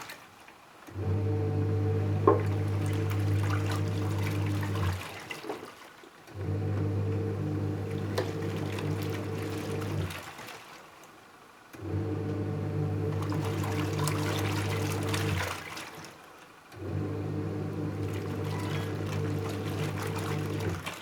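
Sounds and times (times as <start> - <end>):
washing machine motor humming: 0.8 - 10.4, 11.7 - 21.0.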